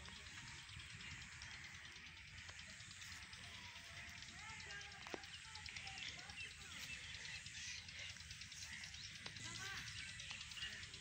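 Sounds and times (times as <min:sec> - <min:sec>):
birds chirping: 0:00.0 - 0:11.0
faint distant voices: 0:00.0 - 0:11.0
steady low rumble: 0:00.0 - 0:11.0.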